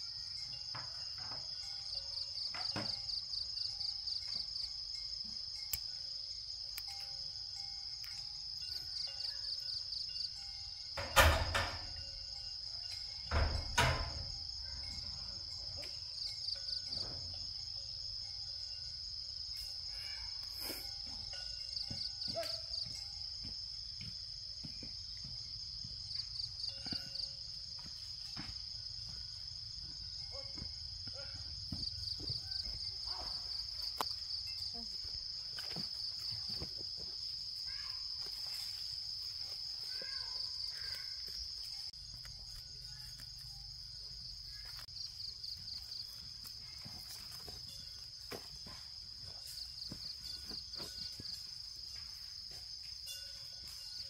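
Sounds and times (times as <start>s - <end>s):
insect chorus: 0.0s - 54.0s
pulsed insect trills: 0.0s - 54.0s.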